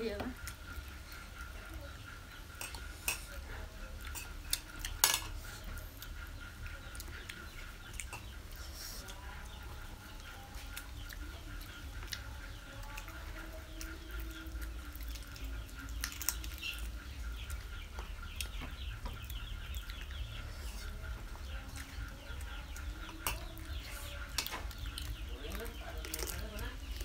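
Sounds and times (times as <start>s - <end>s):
chickens clucking: 0.0s - 27.0s
people gnawing on chicken feet: 0.4s - 27.0s.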